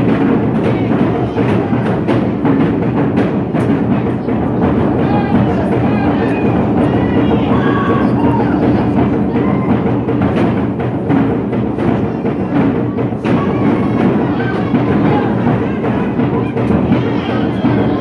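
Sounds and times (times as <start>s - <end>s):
drum beating: 0.0s - 18.0s.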